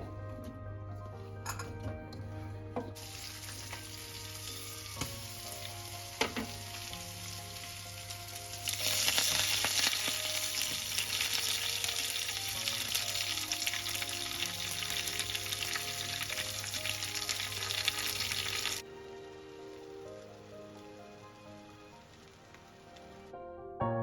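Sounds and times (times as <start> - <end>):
food sizzling in a pan: 3.0 - 23.3.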